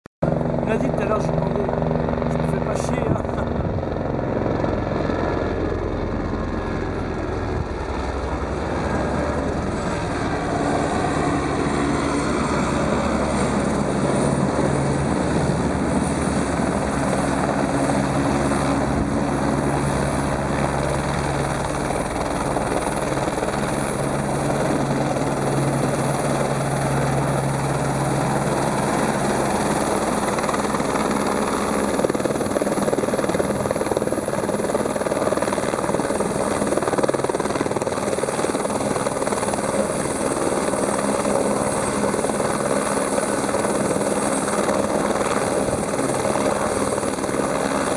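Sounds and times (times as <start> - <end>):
helicopter rotor drone: 0.2 - 47.9.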